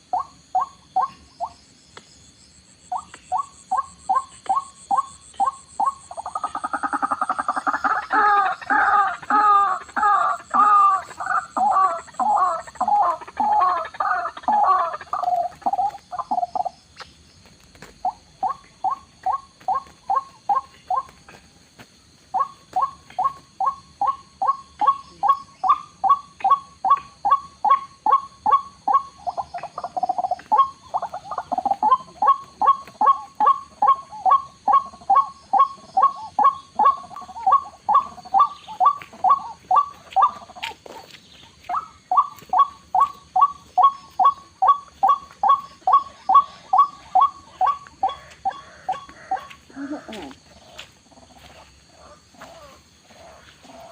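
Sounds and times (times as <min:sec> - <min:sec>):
waterhen calling: 0:02.9 - 0:17.1, 0:22.4 - 0:53.9.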